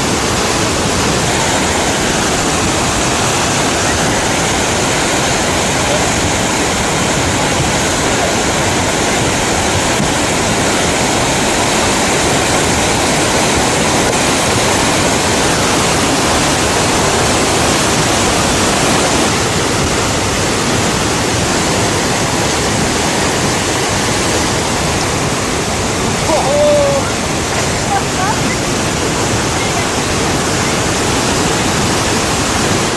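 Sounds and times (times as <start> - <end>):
flood water roaring: 0.0 - 32.9.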